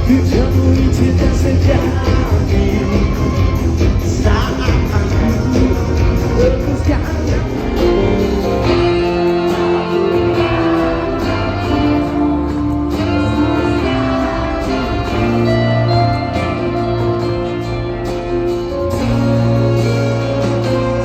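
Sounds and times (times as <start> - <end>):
plucked guitar melody: 0.0 - 21.0
steady bass: 0.0 - 21.0.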